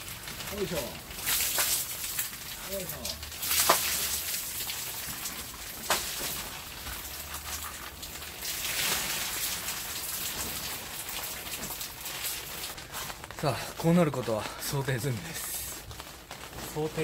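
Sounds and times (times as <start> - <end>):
water pouring off a roof: 0.0 - 17.0.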